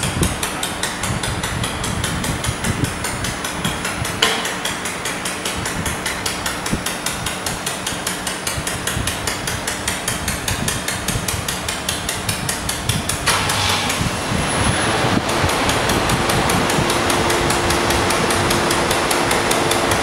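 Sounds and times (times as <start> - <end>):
low machine hum: 0.0 - 20.0
welding machine ticking: 0.0 - 20.0.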